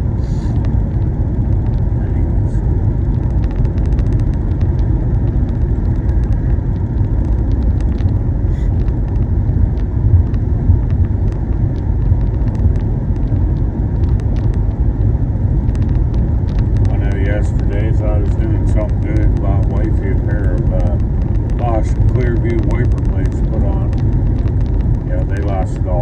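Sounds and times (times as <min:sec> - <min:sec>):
car engine drone: 0:00.0 - 0:26.0
road and tyre rumble: 0:00.0 - 0:26.0
faint light ticks: 0:03.1 - 0:14.8, 0:15.6 - 0:26.0.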